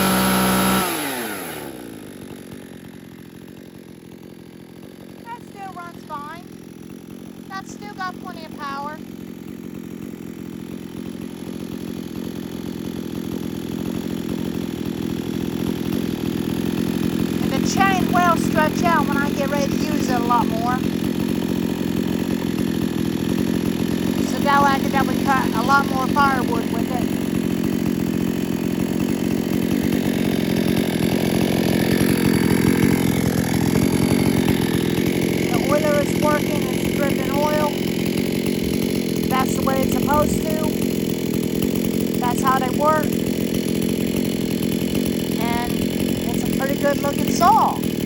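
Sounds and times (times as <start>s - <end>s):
chainsaw engine running: 0.0s - 48.0s.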